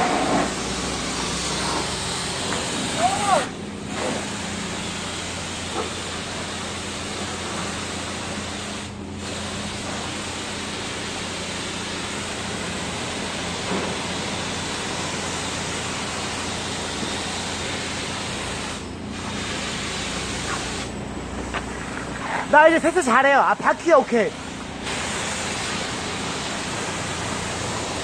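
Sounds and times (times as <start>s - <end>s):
pressure washer spraying water: 0.0s - 28.0s.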